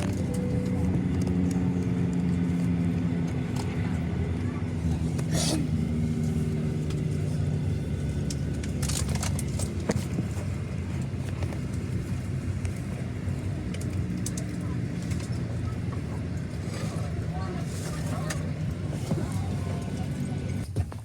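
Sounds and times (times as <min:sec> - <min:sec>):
low hum inside aircraft cabin: 0:00.0 - 0:20.7.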